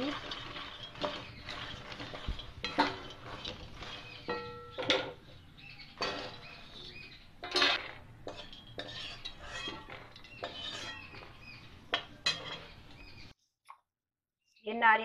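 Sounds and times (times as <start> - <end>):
spatula scraping a metal pan: 0.0 - 13.3.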